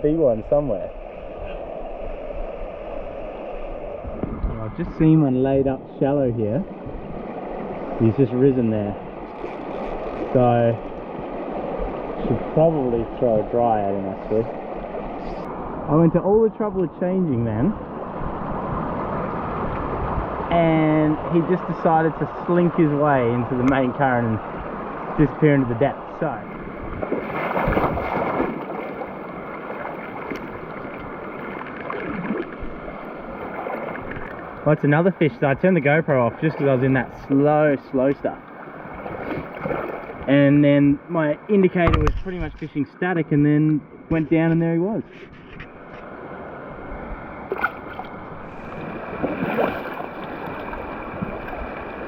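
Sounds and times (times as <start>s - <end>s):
creek water flowing: 0.0s - 52.0s.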